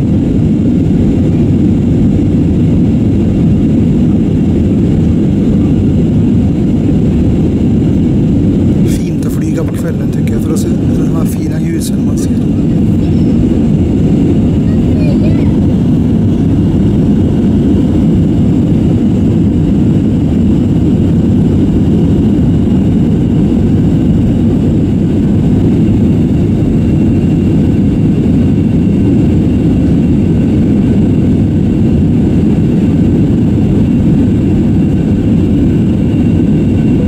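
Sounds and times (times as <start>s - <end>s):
jet engine roar in cabin: 0.0s - 37.0s.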